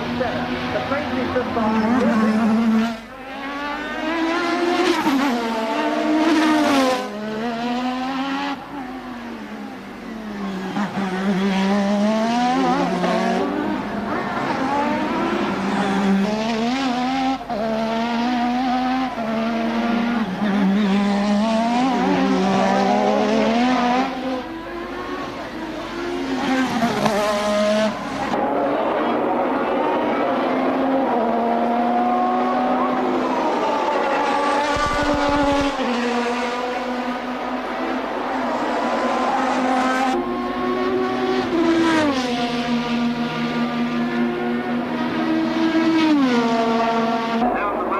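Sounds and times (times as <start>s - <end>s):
racing car engine revving: 0.0s - 47.9s.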